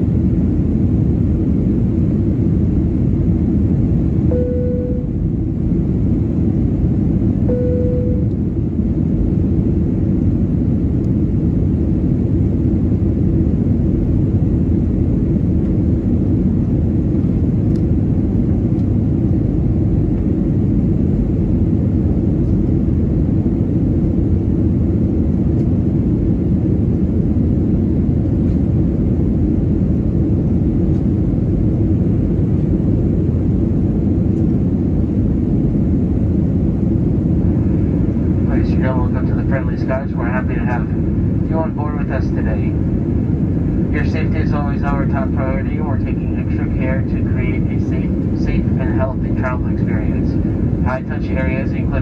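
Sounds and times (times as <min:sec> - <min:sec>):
airplane cabin engine rumble: 0:00.0 - 0:52.0.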